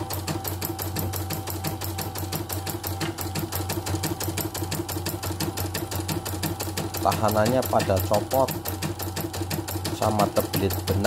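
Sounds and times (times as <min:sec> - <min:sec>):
embroidery needle rattling: 0:00.0 - 0:11.0
machine motor humming: 0:00.0 - 0:11.0.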